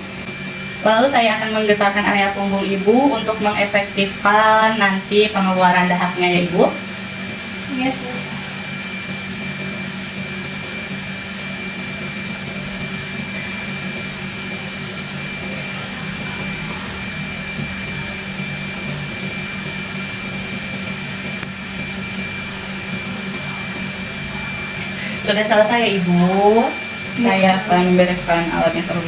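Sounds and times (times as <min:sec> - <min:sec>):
electric massager whirring: 0:00.0 - 0:29.0.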